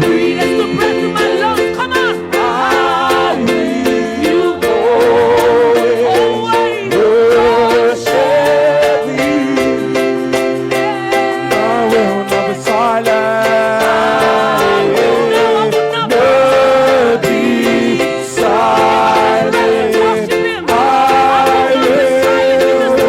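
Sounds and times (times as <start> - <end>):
person singing worship music: 0.0 - 23.0.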